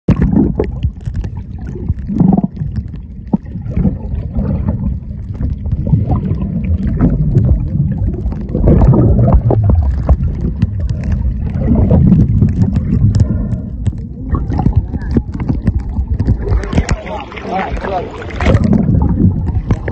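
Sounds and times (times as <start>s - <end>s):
underwater gurgling and bubbling: 0.1s - 19.9s.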